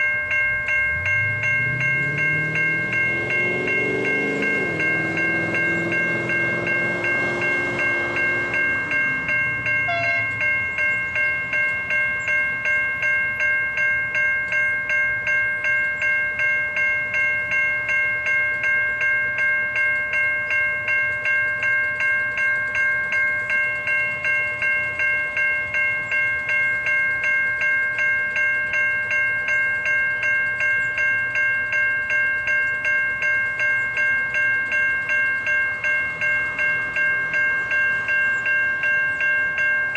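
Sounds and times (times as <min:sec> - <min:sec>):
level crossing bell ringing: 0:00.0 - 0:39.9
low train drone: 0:00.0 - 0:39.9.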